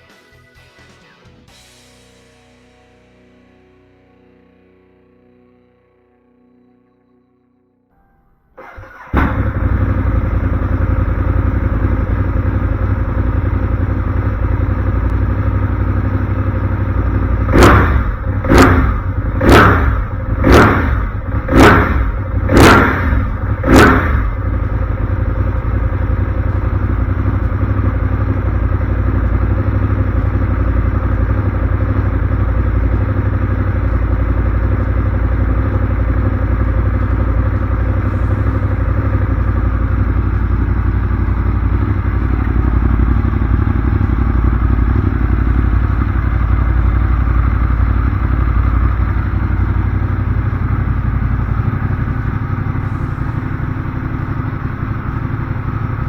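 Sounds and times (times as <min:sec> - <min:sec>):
motorcycle engine starting: 0:08.5 - 0:56.0
motorcycle engine idling: 0:08.6 - 0:56.0
motorcycle engine revving: 0:08.6 - 0:56.0.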